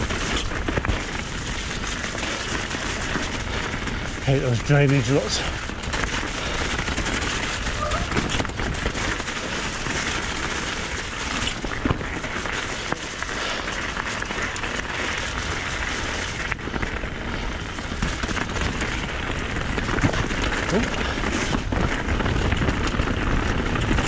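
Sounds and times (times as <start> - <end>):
bike rattling: 0.0 - 24.0
bike tyres splashing through mud: 0.0 - 24.0.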